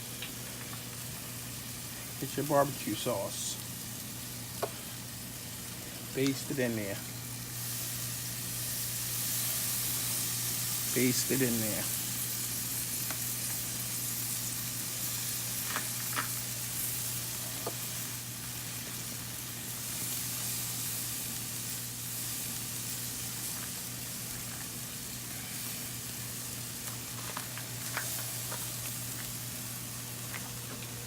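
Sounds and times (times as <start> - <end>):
ribs sizzling on a grill: 0.0 - 31.0.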